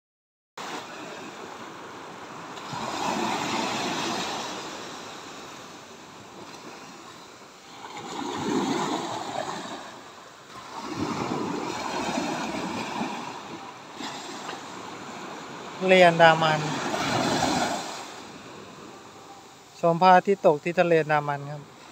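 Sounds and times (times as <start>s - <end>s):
small waves on sandy beach: 0.6s - 21.9s.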